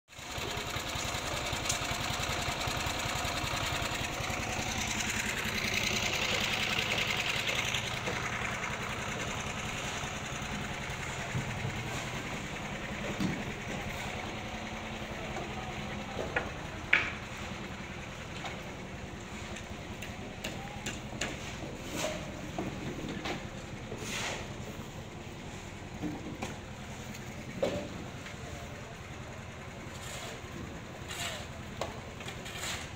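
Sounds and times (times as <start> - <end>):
concrete mixer engine chugging: 0.1 - 32.9.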